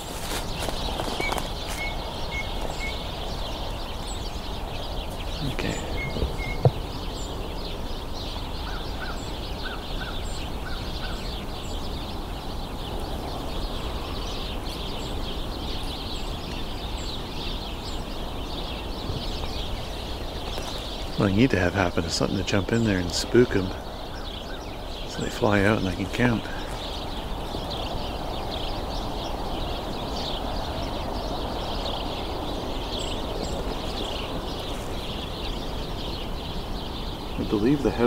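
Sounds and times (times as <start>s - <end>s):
sparrows chattering: 0.0s - 38.0s.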